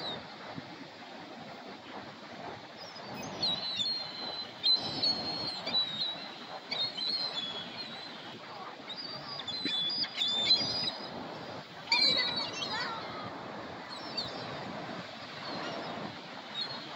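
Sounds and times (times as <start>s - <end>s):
birds chirping: 2.6s - 16.9s.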